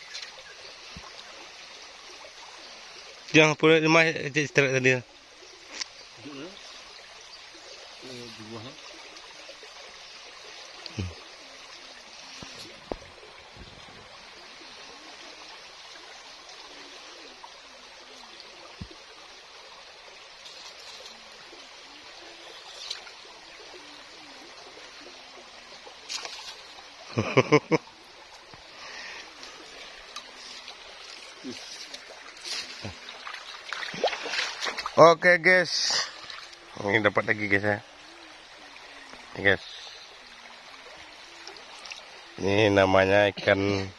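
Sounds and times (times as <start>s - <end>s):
river flowing over stones: 0.0s - 43.9s.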